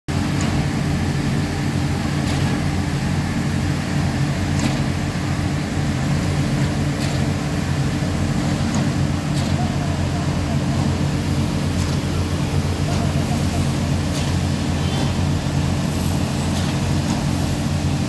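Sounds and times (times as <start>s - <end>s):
pump engine rumbling: 0.1s - 18.0s.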